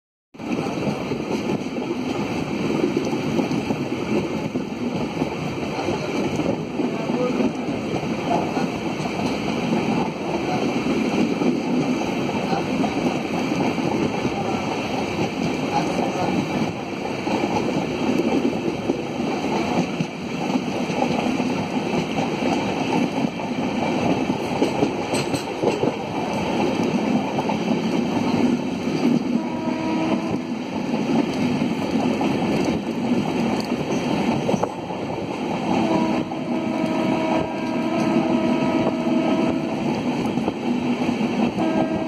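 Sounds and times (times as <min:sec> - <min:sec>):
train wheels rumbling on track: 0:00.4 - 0:42.0.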